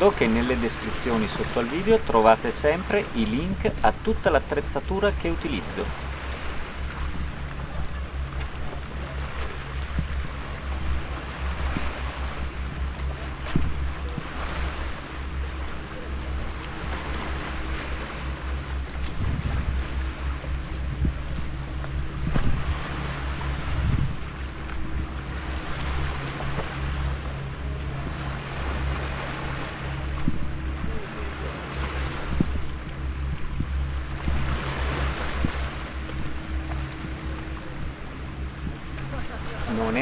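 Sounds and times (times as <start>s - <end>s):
wind buffeting microphone: 5.4s - 40.0s.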